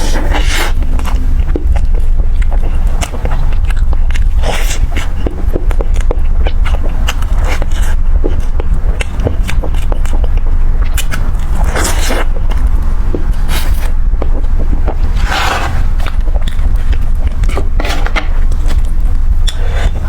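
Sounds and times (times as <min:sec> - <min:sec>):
steady low hum: 0:00.0 - 0:20.0
wet chewing clicks: 0:00.0 - 0:20.0.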